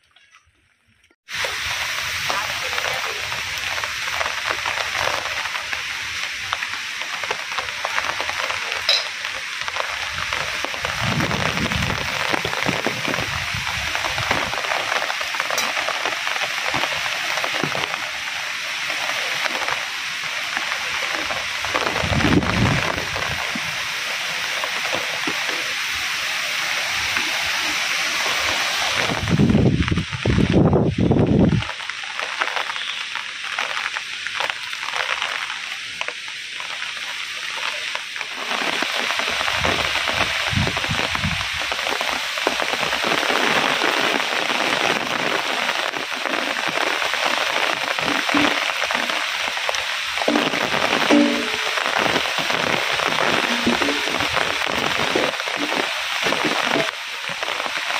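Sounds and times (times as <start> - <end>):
heavy rain hissing: 1.3 - 57.9.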